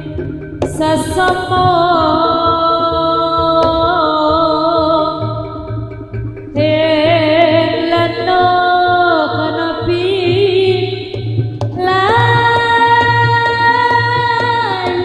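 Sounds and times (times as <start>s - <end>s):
drum strikes: 0.0s - 15.0s
gamelan held melody: 0.0s - 15.0s.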